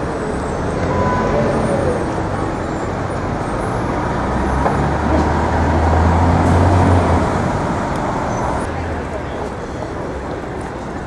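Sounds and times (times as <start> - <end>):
city street traffic: 0.0 - 11.0
heavy vehicle engine rumble: 0.0 - 11.0.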